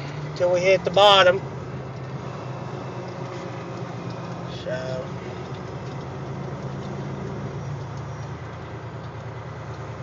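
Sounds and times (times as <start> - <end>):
truck diesel engine drone: 0.0 - 10.0.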